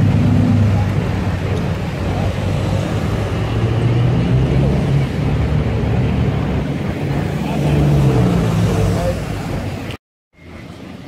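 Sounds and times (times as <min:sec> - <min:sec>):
car engines droning: 0:00.0 - 0:11.0.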